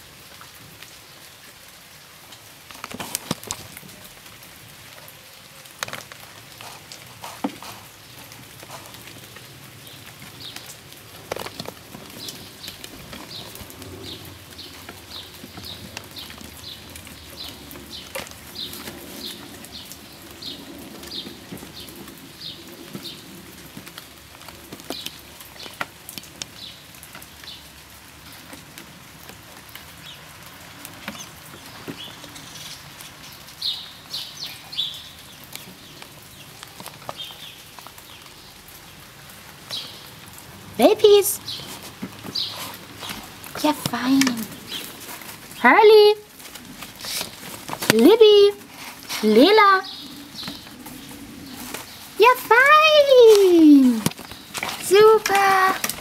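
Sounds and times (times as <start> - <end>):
light rain pattering: 0.0 - 56.0.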